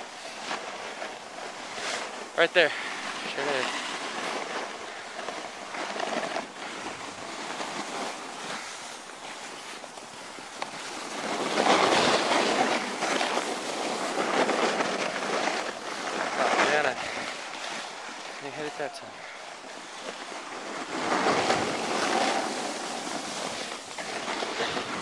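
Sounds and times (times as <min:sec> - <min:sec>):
snowboard scraping over snow: 0:00.0 - 0:25.0.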